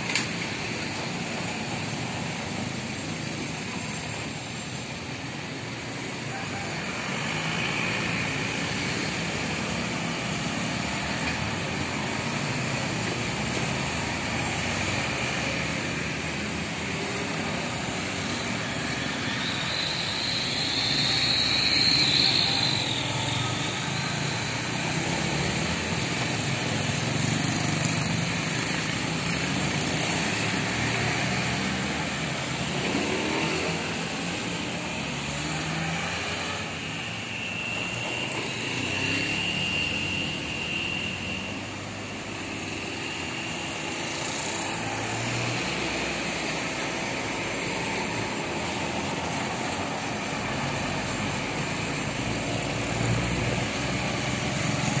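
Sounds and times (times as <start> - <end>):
bus driving by: 0.0 - 55.0
motorcycles riding past: 5.4 - 55.0.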